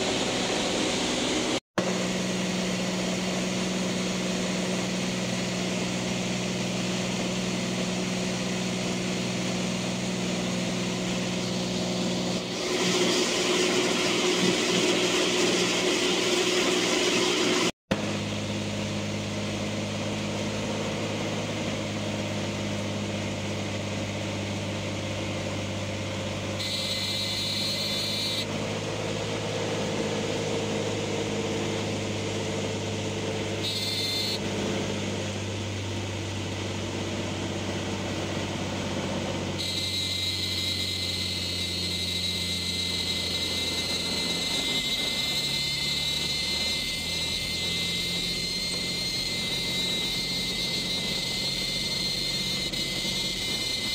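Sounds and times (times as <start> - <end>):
light aircraft engine and propeller: 0.0 - 53.9.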